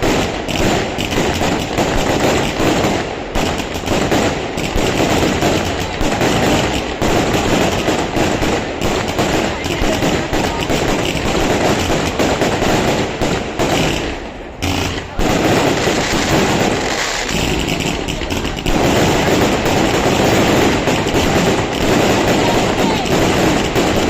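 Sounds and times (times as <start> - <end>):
fireworks crackling bangs: 0.0 - 24.0.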